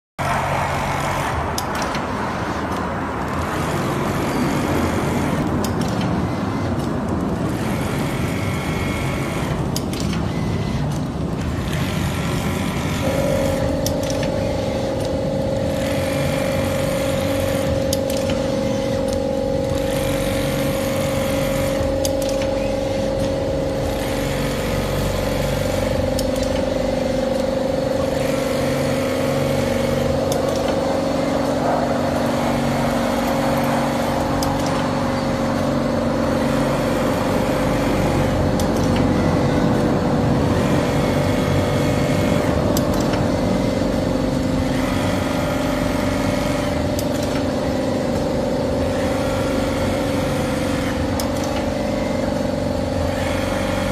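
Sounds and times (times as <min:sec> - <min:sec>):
sewing machine whirring: 0:00.2 - 0:53.9
steady whine: 0:00.2 - 0:53.9.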